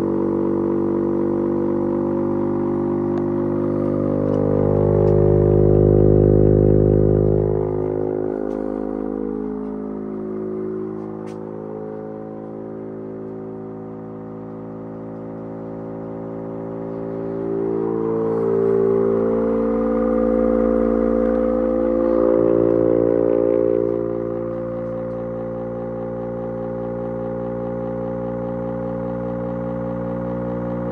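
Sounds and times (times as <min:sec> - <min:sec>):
electric siren low wavering tone: 0:00.0 - 0:30.9.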